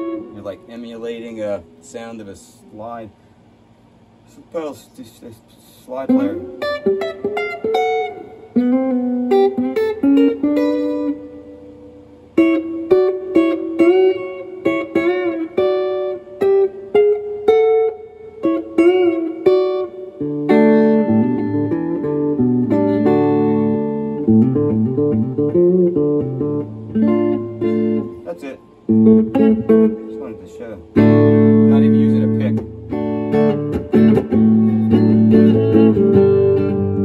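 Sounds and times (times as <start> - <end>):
electric guitar with string bends: 0.0 - 37.0.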